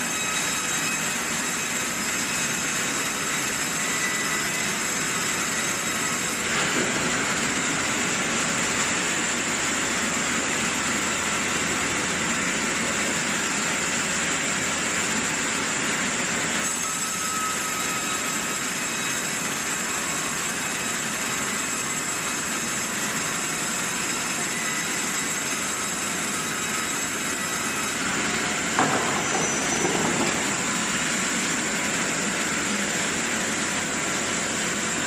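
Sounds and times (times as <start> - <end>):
band saw running with high whine: 0.0 - 35.0.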